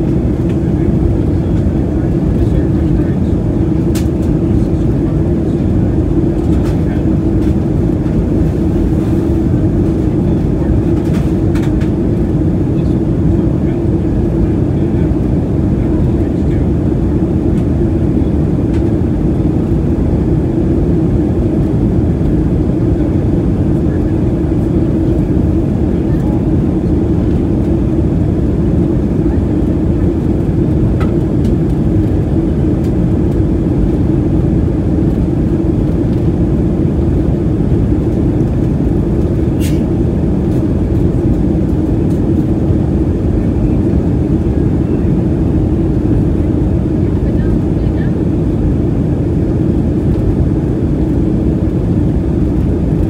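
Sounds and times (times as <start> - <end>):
airflow rushing: 0.0 - 47.6
airplane cabin engine drone: 0.0 - 53.0
steady hum: 0.0 - 53.0.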